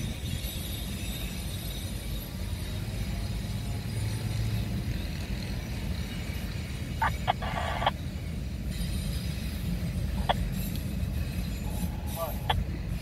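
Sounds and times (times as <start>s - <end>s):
freight train low rumble: 0.0s - 13.0s.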